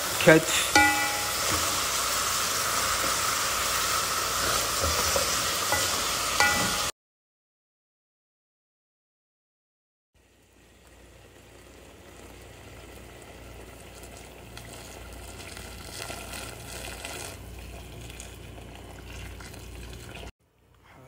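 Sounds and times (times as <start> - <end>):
food sizzling and bubbling in pot: 0.0 - 6.9, 10.2 - 20.6.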